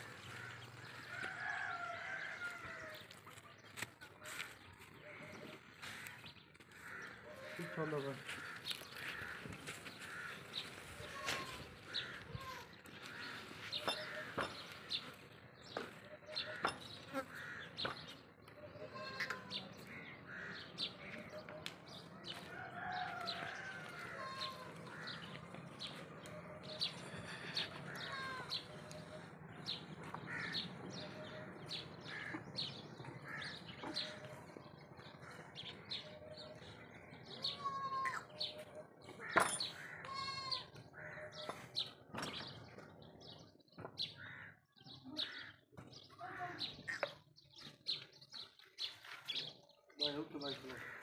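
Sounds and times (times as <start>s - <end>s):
small birds chirping: 2.4s - 51.0s.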